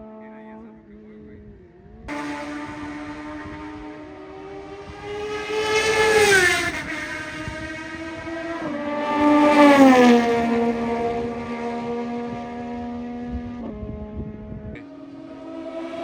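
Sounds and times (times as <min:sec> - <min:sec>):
motorcycle engine revving: 0:02.1 - 0:16.0.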